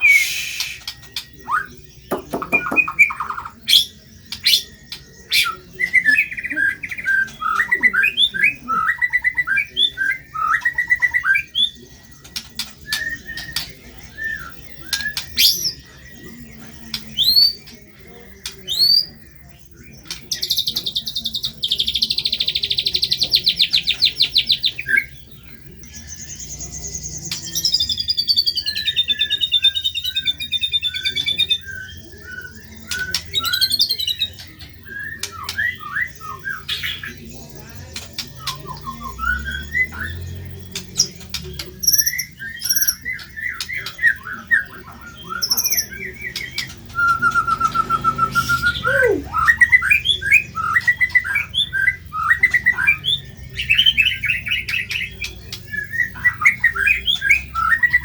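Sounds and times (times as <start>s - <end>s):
bird singing chirps and whistles: 0.0s - 58.0s.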